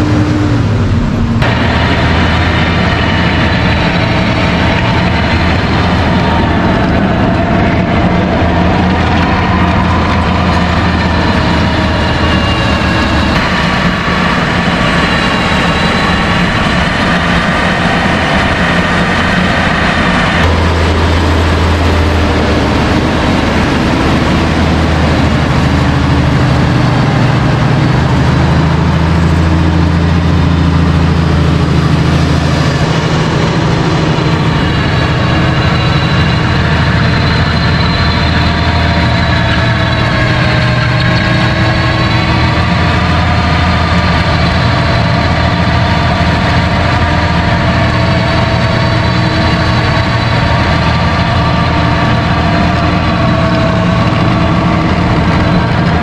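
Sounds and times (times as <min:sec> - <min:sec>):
tractor engine under load: 0:00.0 - 0:56.0
power harrow churning soil: 0:01.4 - 0:56.0.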